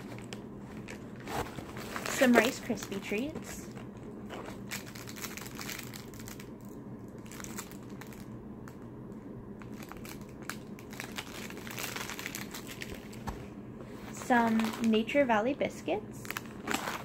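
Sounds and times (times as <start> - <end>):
snack packaging crinkling: 0.0 - 8.9, 9.6 - 13.4, 14.1 - 15.1, 16.2 - 17.0.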